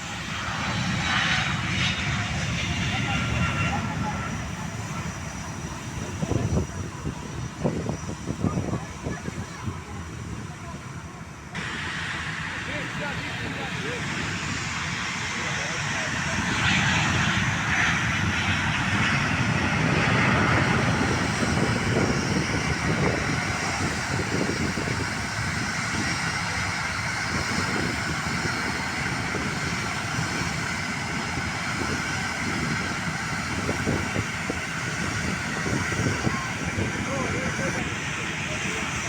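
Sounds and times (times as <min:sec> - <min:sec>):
jet airliner engine: 0:00.0 - 0:39.0.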